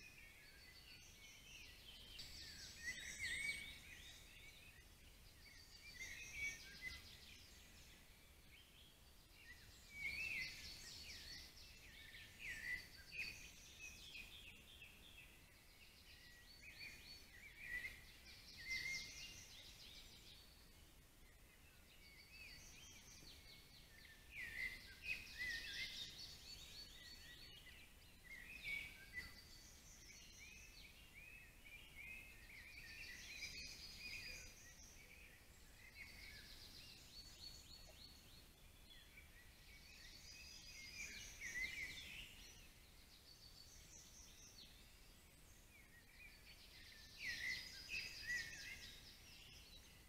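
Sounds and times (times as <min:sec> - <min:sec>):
songbirds trilling and chirping: 0:00.0 - 0:50.0.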